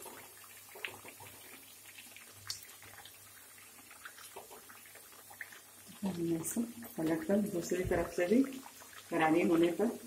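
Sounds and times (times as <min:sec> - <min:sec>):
deep-frying sizzle with pops: 0:00.0 - 0:10.0.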